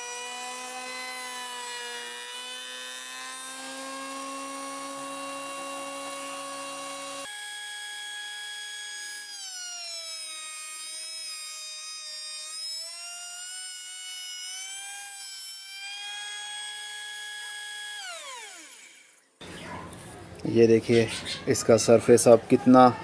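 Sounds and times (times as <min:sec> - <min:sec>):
electric planer whining: 0:00.0 - 0:19.6
planer cutting wood: 0:00.0 - 0:19.6.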